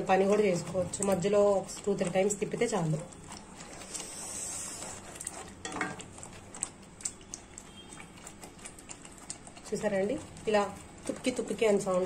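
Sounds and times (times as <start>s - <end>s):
spatula stirring thick paste: 0.0s - 12.0s.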